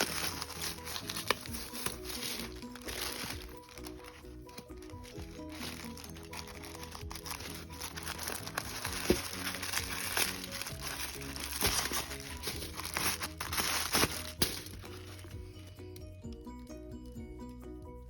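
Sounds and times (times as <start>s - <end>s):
packaging crinkling: 0.0s - 15.4s
background music: 0.0s - 18.0s.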